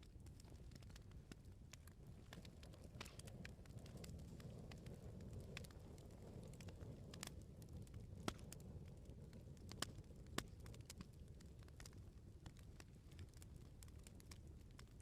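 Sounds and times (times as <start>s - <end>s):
bonfire crackling: 0.0s - 15.0s
low rumble of burning: 0.0s - 15.0s.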